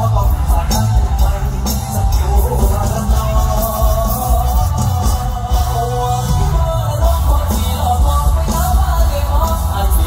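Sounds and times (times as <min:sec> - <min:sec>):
amplified live band music: 0:00.0 - 0:10.0.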